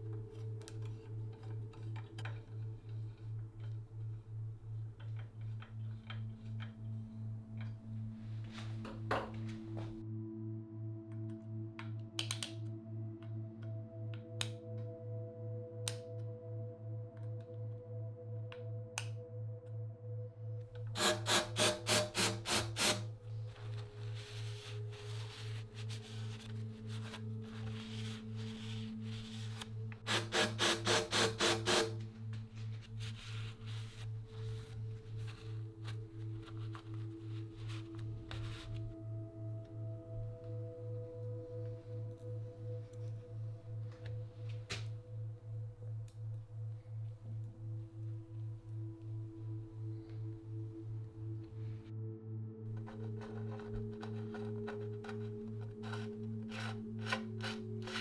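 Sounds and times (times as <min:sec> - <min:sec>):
ambient background music: 0:00.0 - 0:58.0.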